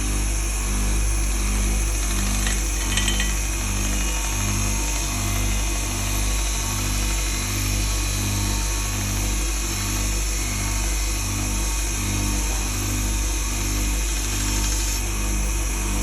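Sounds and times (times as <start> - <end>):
grinder motor humming: 0.0 - 16.0.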